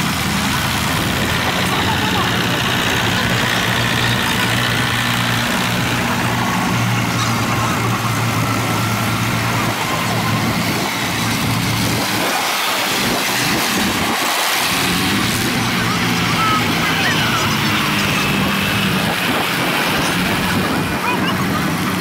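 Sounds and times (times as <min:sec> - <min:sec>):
tractor engines driving past: 0:00.0 - 0:22.0.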